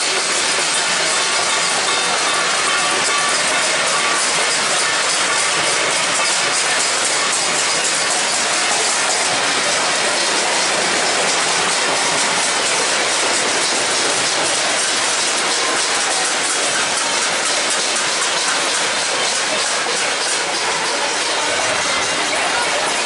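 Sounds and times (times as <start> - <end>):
banging on steel plates: 0.0 - 23.0
people clapping: 0.0 - 23.0.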